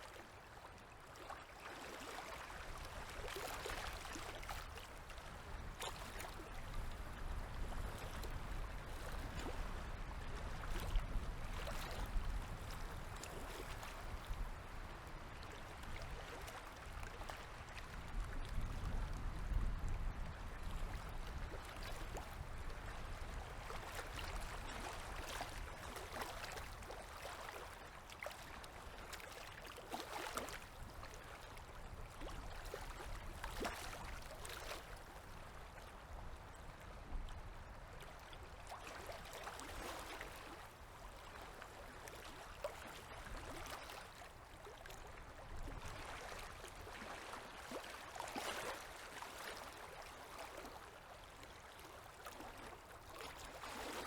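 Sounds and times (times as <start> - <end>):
river waves lapping and splashing: 0.0 - 54.0.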